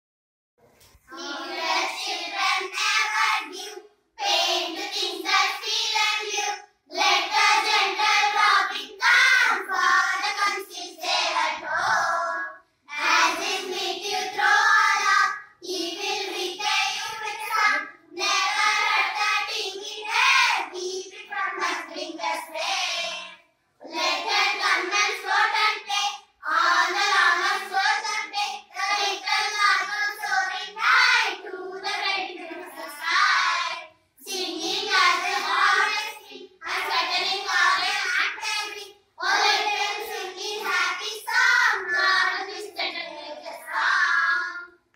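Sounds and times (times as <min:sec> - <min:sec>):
girls singing together: 0:00.8 - 0:44.9.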